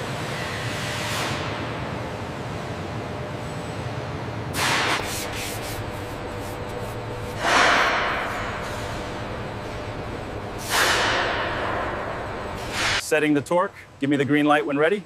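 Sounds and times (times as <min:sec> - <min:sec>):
steady low hum: 0:01.6 - 0:15.0.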